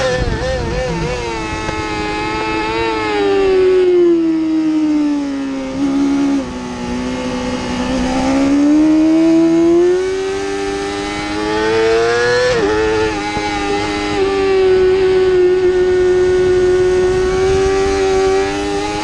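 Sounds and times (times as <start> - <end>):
motorcycle engine revving high: 0.0 - 19.0.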